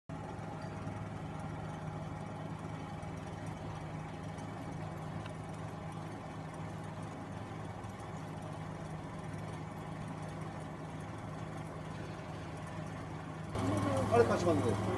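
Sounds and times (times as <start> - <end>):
engine idling: 0.1 - 14.9.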